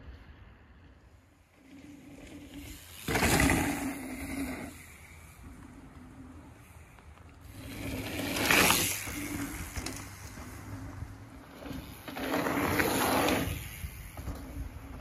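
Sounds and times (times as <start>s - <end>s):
bike tyres crunching on gravel: 1.0s - 15.0s.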